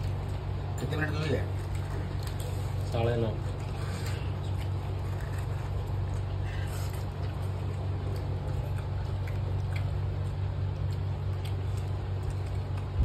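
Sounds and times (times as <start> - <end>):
food mixed and eaten by hand: 0.0 - 13.0
steady low hum: 0.0 - 13.0.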